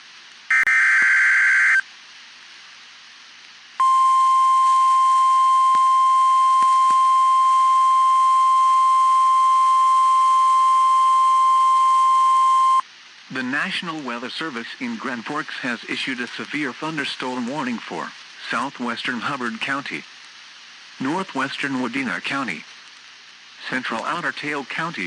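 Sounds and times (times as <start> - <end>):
faint radio hiss: 0.0 - 25.0.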